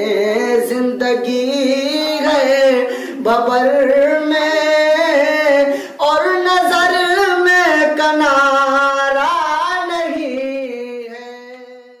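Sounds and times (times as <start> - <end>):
man singing solo: 0.0 - 12.0.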